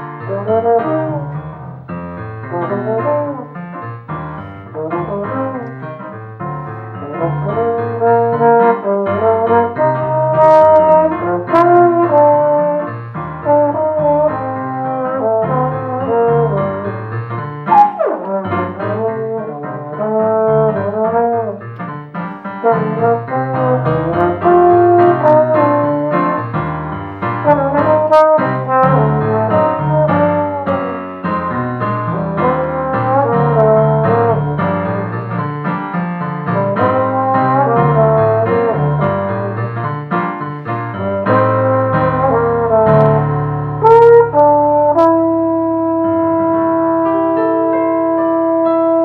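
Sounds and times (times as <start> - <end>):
piano chords: 0.0 - 49.0
trombone melody: 0.0 - 49.0.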